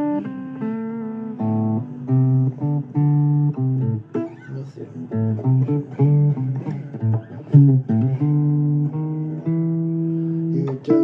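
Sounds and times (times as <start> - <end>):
blues guitar plucked notes: 0.0 - 11.0.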